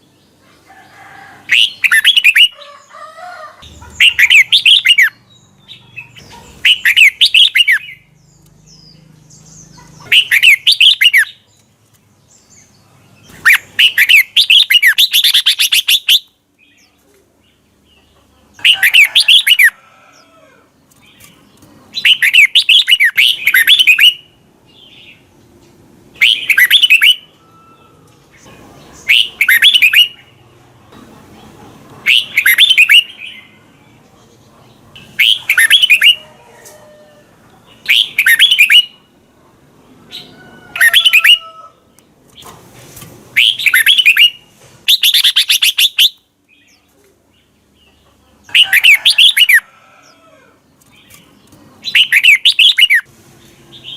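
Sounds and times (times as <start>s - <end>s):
bird singing warbled phrases: 1.4s - 25.5s, 26.1s - 30.6s, 31.4s - 36.3s, 37.5s - 39.3s, 40.0s - 42.5s, 43.4s - 53.1s.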